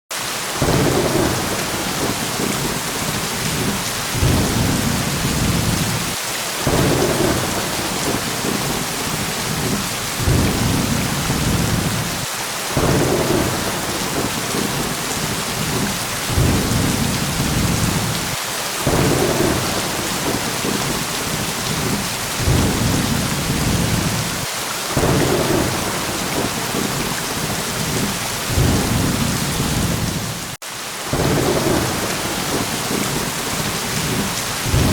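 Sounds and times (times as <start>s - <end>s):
heavy rain: 0.1s - 34.9s
thunder rumbles: 0.6s - 34.9s.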